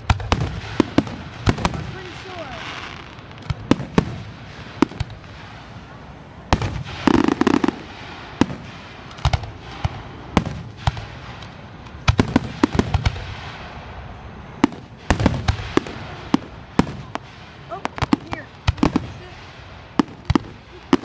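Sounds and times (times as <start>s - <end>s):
low rumble after bangs: 0.0s - 20.9s
fireworks bangs: 0.0s - 21.0s.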